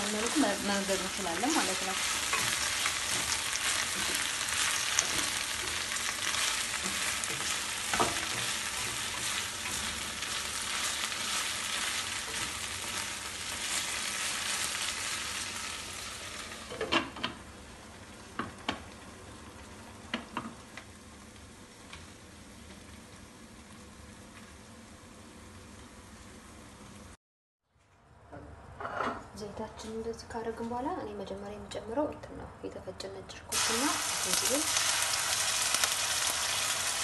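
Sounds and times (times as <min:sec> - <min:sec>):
okra sizzling in frying pan: 0:00.0 - 0:27.2, 0:33.5 - 0:37.0.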